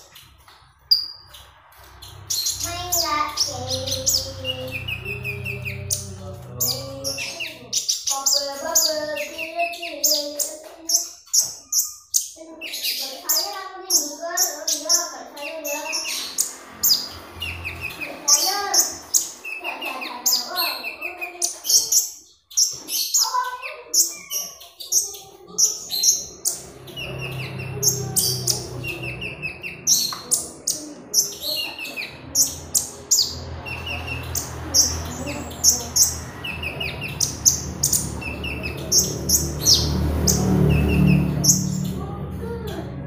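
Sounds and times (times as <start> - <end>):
bird chirping and trilling: 0.0 - 43.0.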